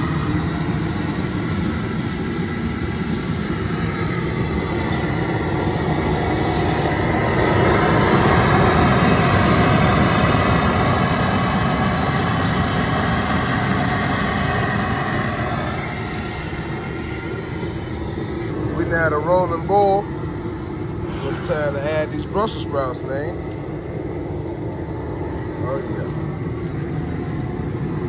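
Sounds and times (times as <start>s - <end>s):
propane burner rushing: 0.0s - 28.0s
water at a rolling boil: 0.0s - 28.0s.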